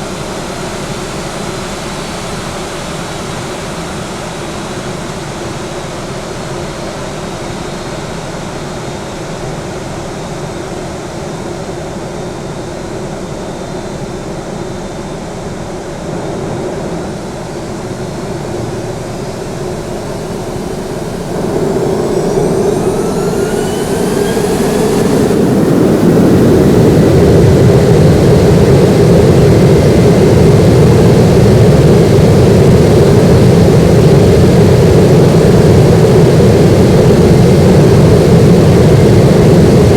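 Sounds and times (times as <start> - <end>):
jet engines spooling up: 0.0 - 39.9.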